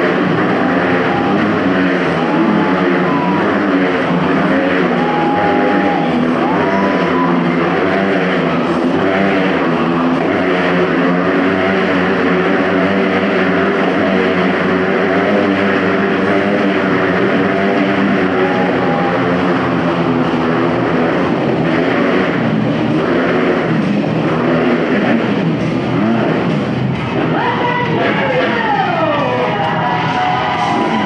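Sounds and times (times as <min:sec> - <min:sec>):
motorcycle engines revving high: 0:00.0 - 0:31.0.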